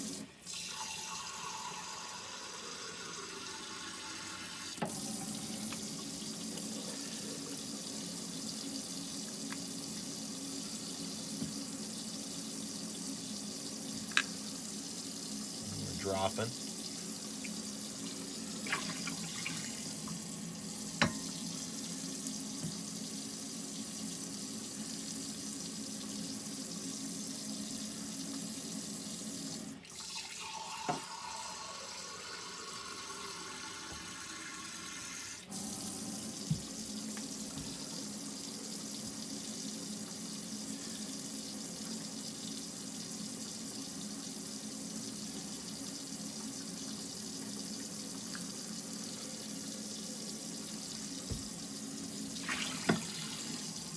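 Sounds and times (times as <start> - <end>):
faucet water running into sink: 0.0 - 53.9.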